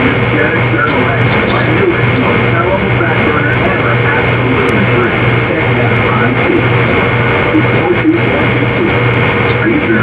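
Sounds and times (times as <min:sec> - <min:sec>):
loud scratchy static: 0:00.0 - 0:10.0
low repeating throb: 0:00.0 - 0:10.0.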